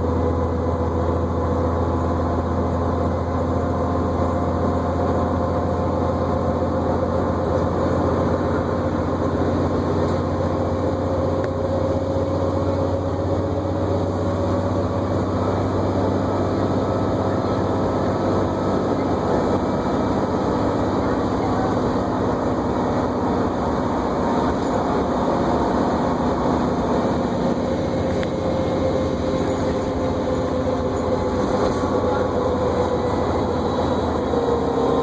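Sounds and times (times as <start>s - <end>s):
bus engine drone: 0.0s - 35.0s.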